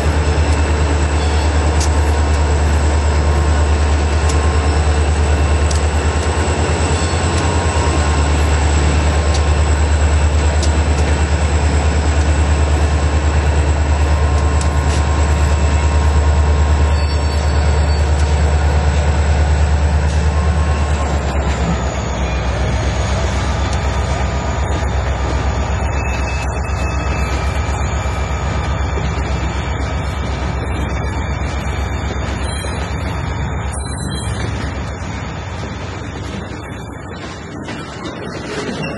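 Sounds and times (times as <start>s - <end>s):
diesel locomotives rumbling past: 0.0s - 38.9s.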